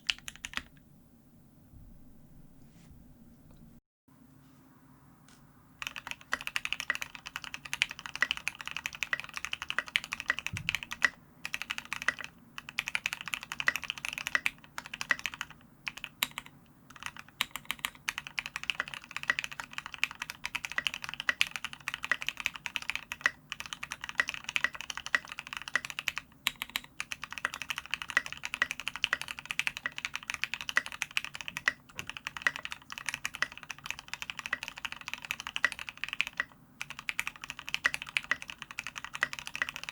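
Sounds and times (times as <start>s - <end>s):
fast typing on mechanical keyboard: 0.0s - 0.8s, 5.8s - 39.9s.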